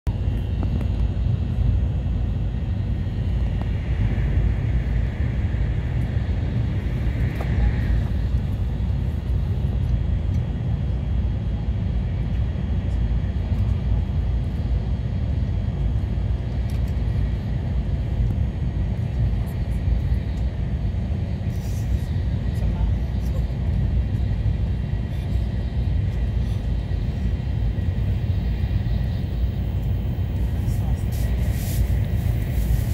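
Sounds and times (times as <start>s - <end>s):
train low rumble: 0.0s - 32.9s.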